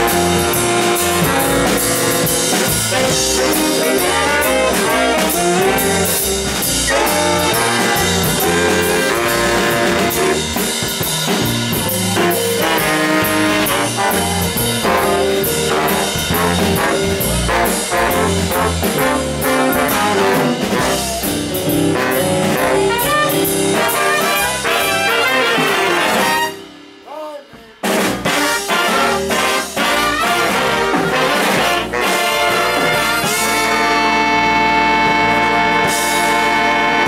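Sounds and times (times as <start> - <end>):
jazz band with saxophones: 0.0 - 37.0.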